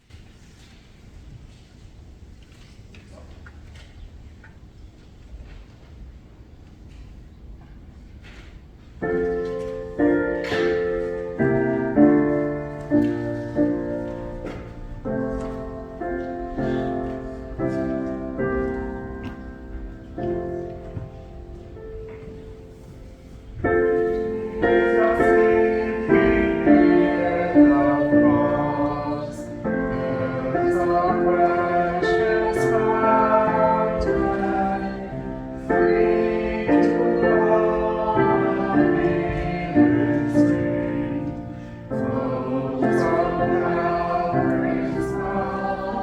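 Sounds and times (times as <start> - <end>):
piano playing slow chords: 9.0 - 46.0.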